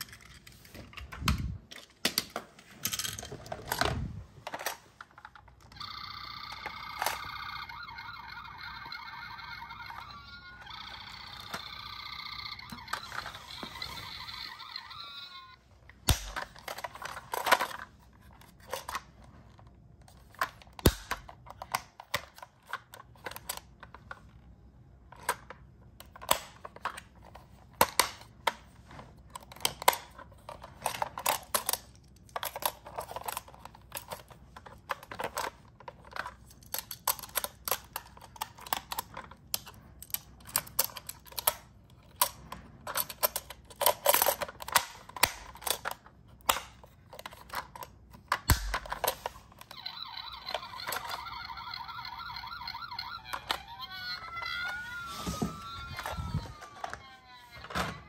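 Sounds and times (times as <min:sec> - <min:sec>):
plastic toy clicks and rattles: 0:00.0 - 0:24.4, 0:25.0 - 0:58.0.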